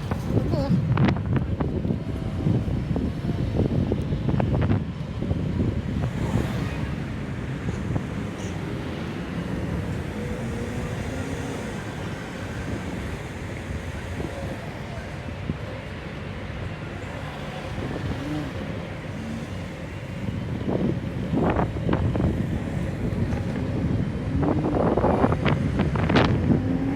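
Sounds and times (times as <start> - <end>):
faint road noise: 0.0 - 26.9
wind rushing over microphone: 0.0 - 26.9.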